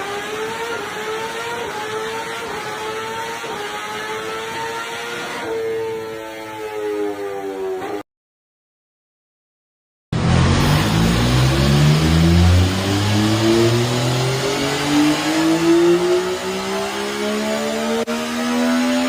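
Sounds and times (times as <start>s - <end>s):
motorcycle engine revving: 0.0s - 8.0s, 10.2s - 19.0s.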